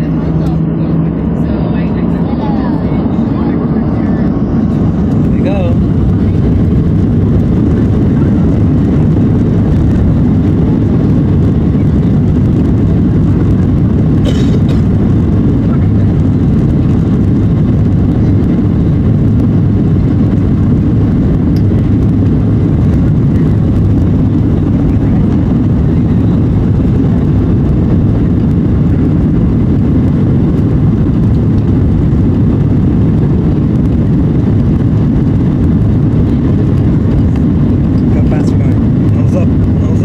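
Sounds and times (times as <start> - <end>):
jet engines at takeoff power: 0.0 - 40.0
wheels rumbling on runway: 0.0 - 40.0.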